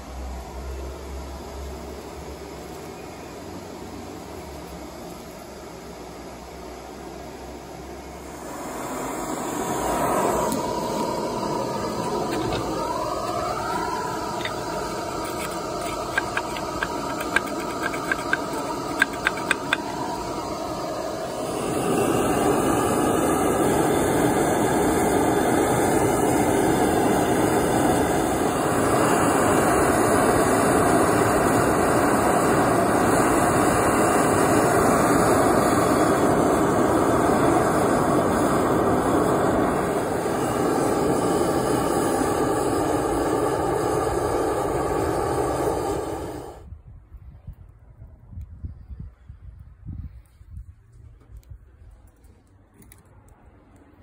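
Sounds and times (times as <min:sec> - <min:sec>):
gas burner rushing: 0:00.0 - 0:46.7.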